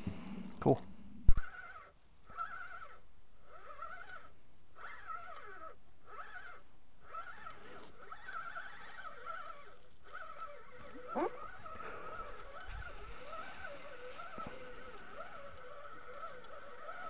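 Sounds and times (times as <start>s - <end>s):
animal wavering cries: 1.3s - 17.0s.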